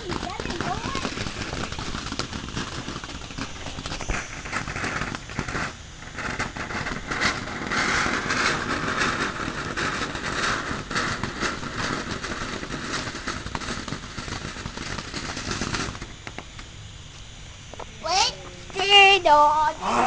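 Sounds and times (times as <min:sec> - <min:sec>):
sharp crackling pops: 0:00.0 - 0:19.8
firework hissing sparks: 0:00.0 - 0:20.0.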